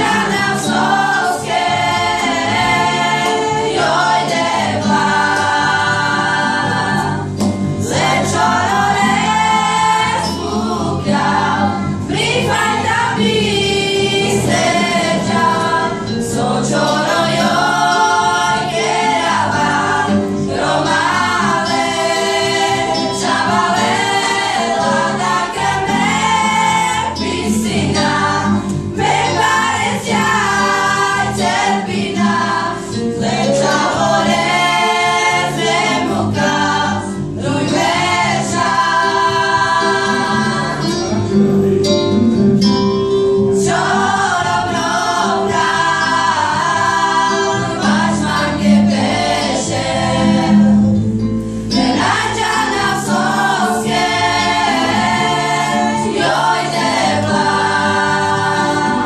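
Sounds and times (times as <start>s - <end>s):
women and girls singing together: 0.0s - 41.3s, 43.5s - 51.0s, 51.7s - 59.0s.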